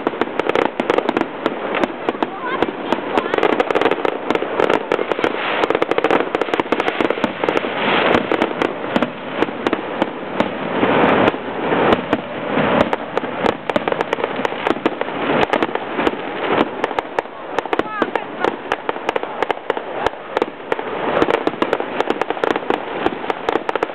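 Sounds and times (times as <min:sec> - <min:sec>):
fireworks crackling and popping: 0:00.0 - 0:23.9.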